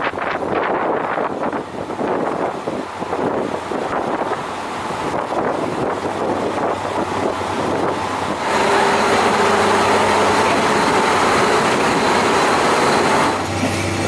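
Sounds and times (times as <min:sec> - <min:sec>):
diesel railcar idling: 0:01.4 - 0:14.0.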